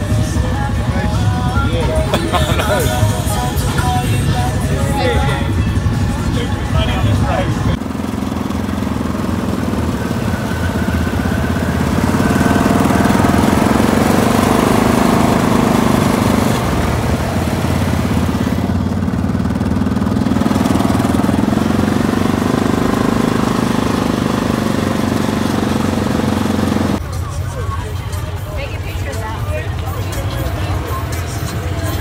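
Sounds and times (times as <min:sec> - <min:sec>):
road and wind noise: 0:00.0 - 0:32.0
vehicle engine running: 0:00.0 - 0:32.0.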